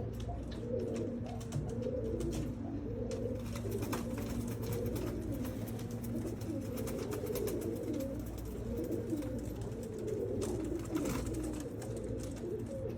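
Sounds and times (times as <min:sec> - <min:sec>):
pigeons cooing: 0:00.0 - 0:12.9.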